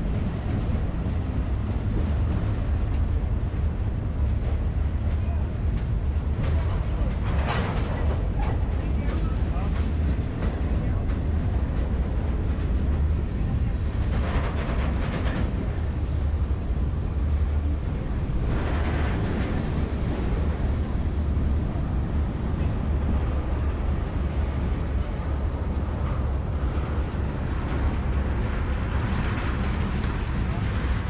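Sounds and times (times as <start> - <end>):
steel wheels rumbling on rail: 0.0 - 31.0.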